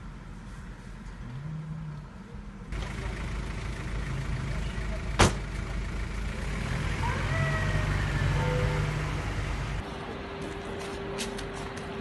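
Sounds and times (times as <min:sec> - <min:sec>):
street noise: 0:00.0 - 0:12.0
vehicle engine humming: 0:00.0 - 0:12.0.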